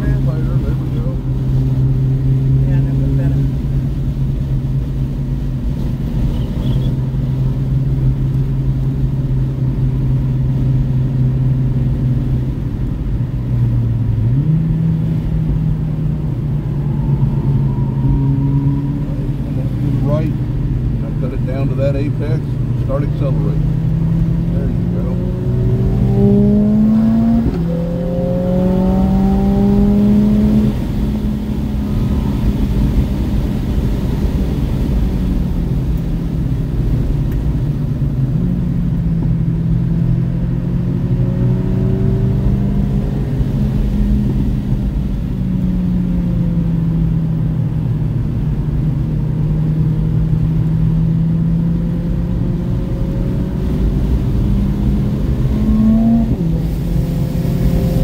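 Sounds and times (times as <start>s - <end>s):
car engine revving: 0.0s - 58.0s
road and tyre rumble: 0.0s - 58.0s.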